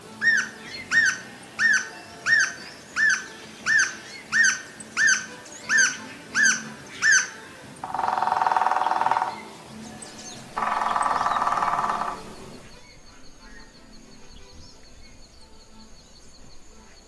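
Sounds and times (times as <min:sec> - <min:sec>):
woodpecker calling harsh notes: 0:00.0 - 0:17.0.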